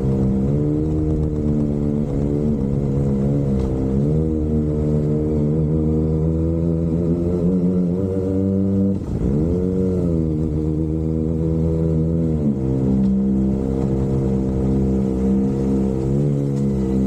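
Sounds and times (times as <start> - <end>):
motorcycle engine at steady revs: 0.0 - 17.0.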